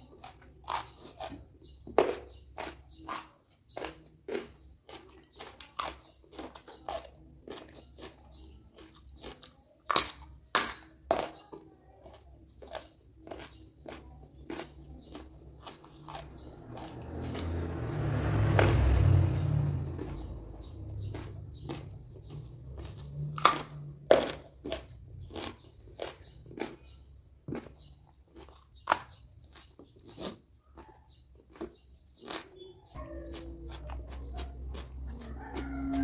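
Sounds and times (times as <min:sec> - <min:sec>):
crunchy chewing of vegetables: 0:00.0 - 0:36.0.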